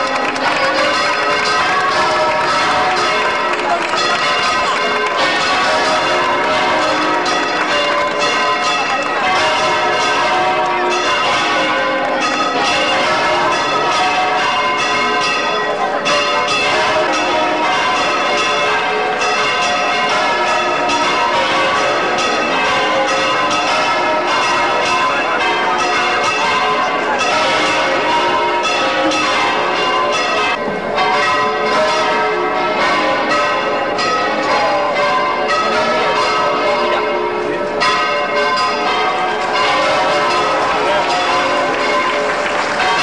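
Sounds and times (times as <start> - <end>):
church bells pealing: 0.0 - 43.0.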